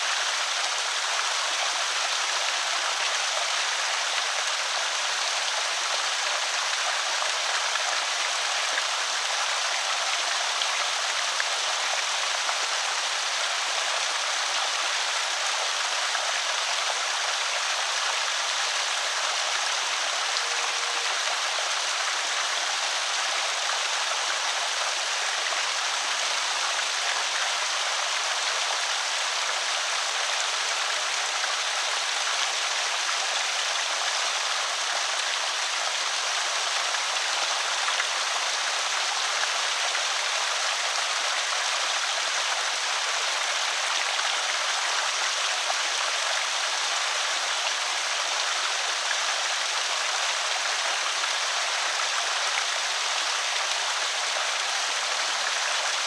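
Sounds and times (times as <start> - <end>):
water pouring over spillway: 0.0 - 56.0.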